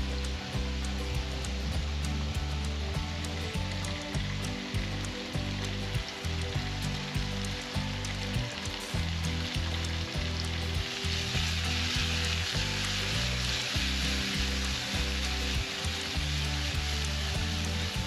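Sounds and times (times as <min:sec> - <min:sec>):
background music with bass: 0:00.0 - 0:18.0
food sizzling in a pan: 0:00.0 - 0:18.0.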